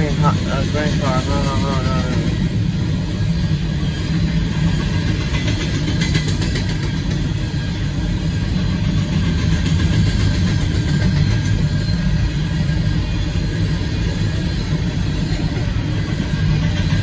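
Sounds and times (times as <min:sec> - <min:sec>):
freight train cars rumbling past: 0:00.0 - 0:17.0.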